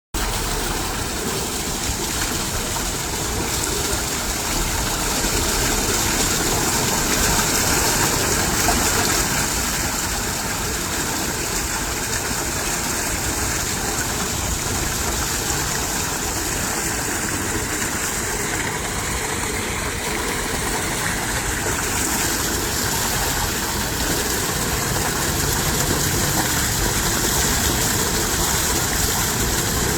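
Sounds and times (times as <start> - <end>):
flowing water rushing: 0.2 - 29.9.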